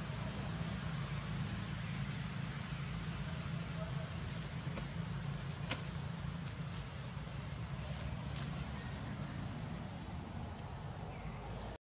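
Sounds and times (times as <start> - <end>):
high insect-like drone: 0.0 - 11.8.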